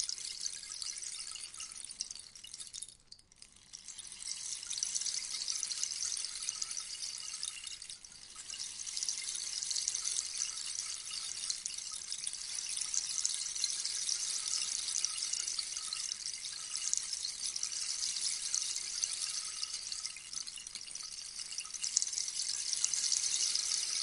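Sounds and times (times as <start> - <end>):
rainstick pellets trickling: 0.0 - 24.0.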